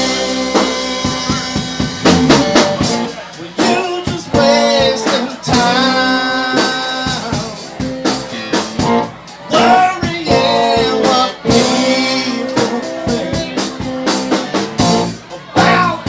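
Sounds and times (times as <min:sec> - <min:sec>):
guitar: 0:00.0 - 0:16.0
person singing: 0:00.0 - 0:16.0.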